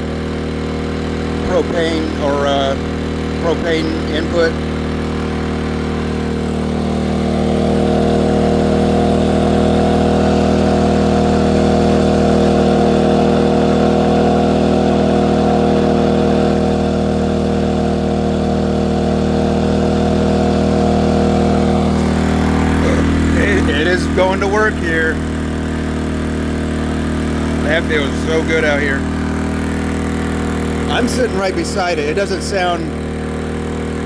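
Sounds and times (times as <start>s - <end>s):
generator engine running: 0.0s - 34.0s.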